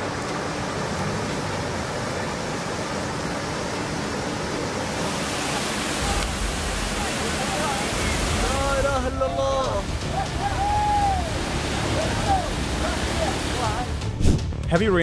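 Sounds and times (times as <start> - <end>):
floodwater rushing through culvert: 0.0 - 14.6
deep water rumble: 0.0 - 15.0.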